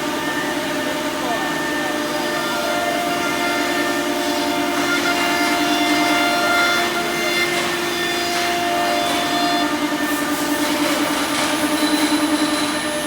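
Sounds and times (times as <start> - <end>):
cutter cutting wood: 0.0 - 13.0
router spindle whine: 0.0 - 13.0.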